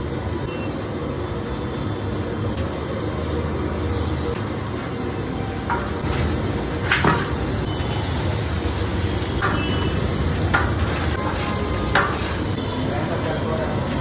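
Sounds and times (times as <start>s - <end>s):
spices sizzling in a metal pot: 0.0s - 14.0s.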